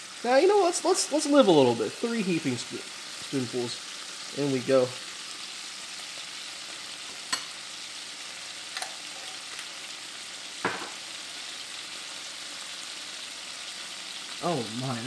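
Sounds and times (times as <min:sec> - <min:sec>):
aromatics sizzling in oil: 0:00.0 - 0:15.0.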